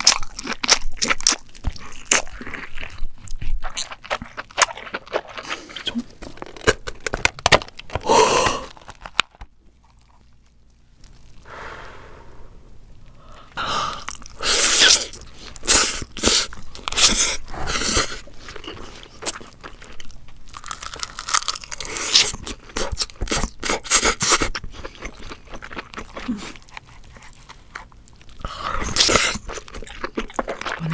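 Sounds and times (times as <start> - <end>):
crab shell crunching and chewing: 0.0 - 11.5, 13.0 - 30.9.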